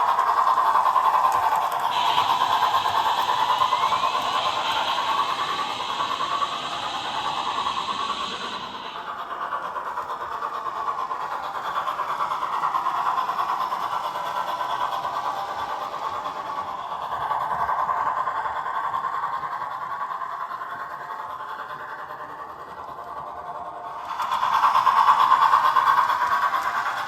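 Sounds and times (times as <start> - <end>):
model train rumbling on rails: 0.0 - 27.0.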